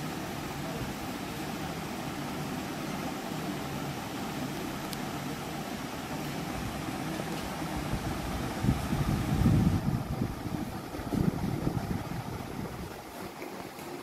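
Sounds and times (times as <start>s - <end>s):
room hum and hiss: 0.0s - 14.0s.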